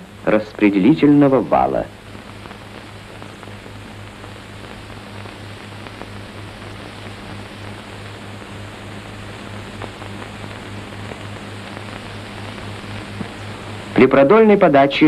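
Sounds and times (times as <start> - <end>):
low hum: 0.0 - 14.4
film soundtrack hiss: 0.0 - 15.0.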